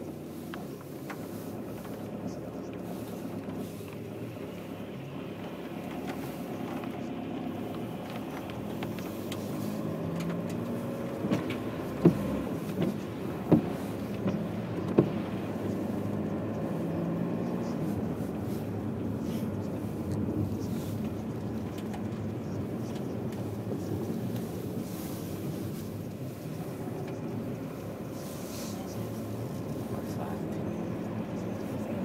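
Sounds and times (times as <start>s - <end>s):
car engine and tyre noise: 0.0s - 32.0s.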